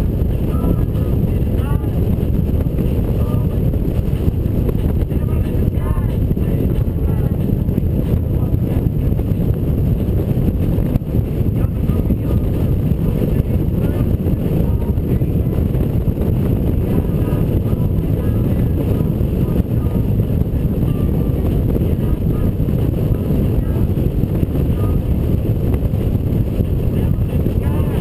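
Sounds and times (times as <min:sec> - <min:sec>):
motorcycle engine and road noise: 0:00.0 - 0:28.0
wind buffeting microphone: 0:00.0 - 0:28.0.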